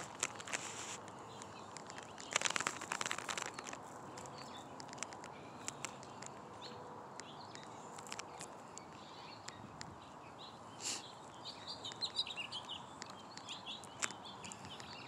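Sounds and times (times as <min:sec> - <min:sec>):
small clicks: 0:00.0 - 0:09.9, 0:11.5 - 0:15.0
crackling rustle: 0:00.0 - 0:15.0
faint bird chirps: 0:00.0 - 0:15.0.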